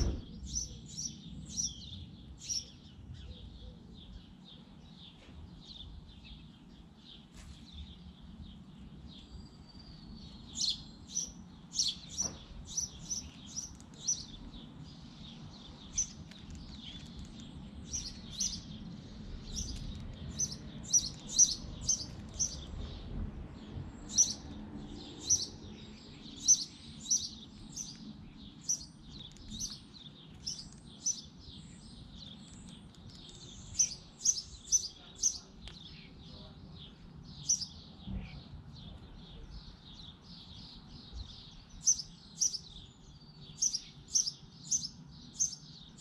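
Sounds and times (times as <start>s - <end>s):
sparrows chirping: 0.0s - 46.0s.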